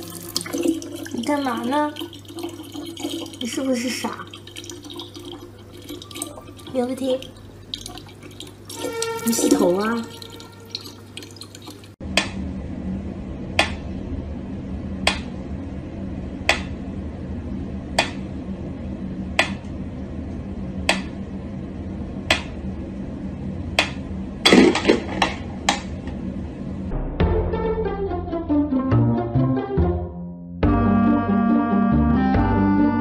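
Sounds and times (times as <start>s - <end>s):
low steady hum: 0.0s - 27.1s.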